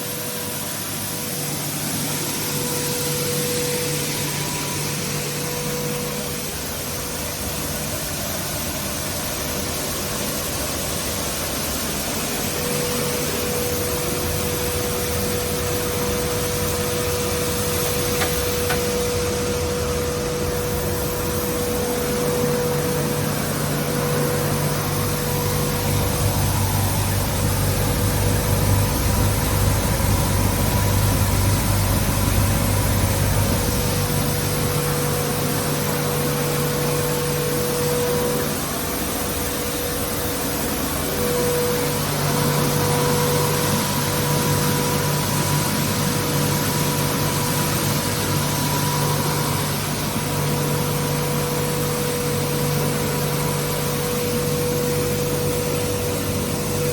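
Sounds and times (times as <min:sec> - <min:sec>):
stone mill motor droning: 0:10.0 - 0:56.9.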